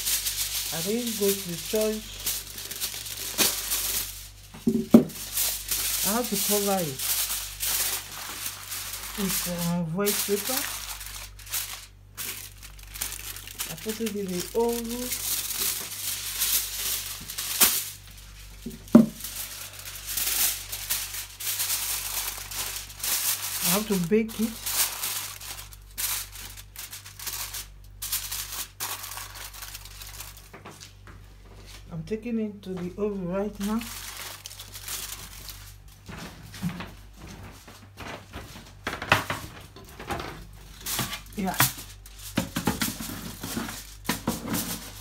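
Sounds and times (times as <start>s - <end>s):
aluminium foil crinkling: 0.0s - 31.9s, 32.8s - 45.0s.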